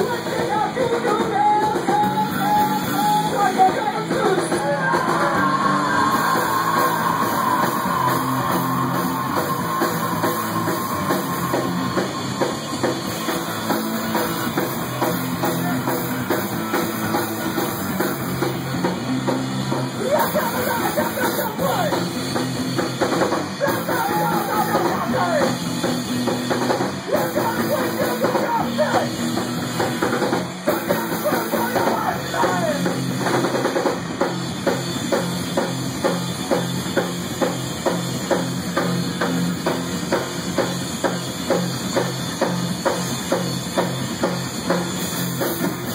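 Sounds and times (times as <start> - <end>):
drum kit beat: 0.0 - 45.9
fast heavy rock music: 0.0 - 45.9.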